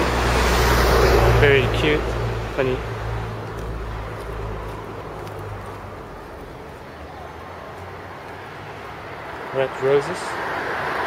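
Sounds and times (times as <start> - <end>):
quiet street background: 0.0 - 11.0
vehicle engine rumble: 0.0 - 11.0.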